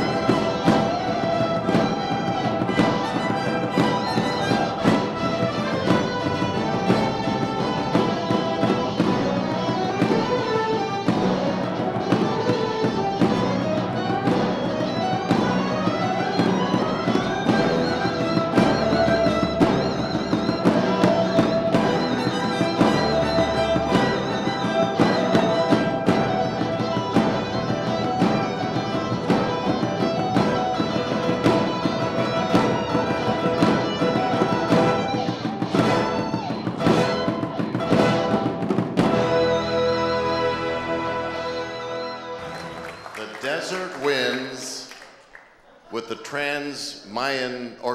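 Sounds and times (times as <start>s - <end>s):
wind band playing: 0.0s - 43.3s
percussion beat: 0.0s - 46.4s.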